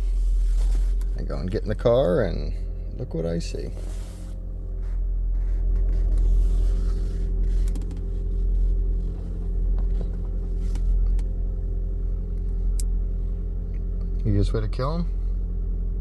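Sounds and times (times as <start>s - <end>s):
car engine rumble inside cabin: 0.0s - 16.0s.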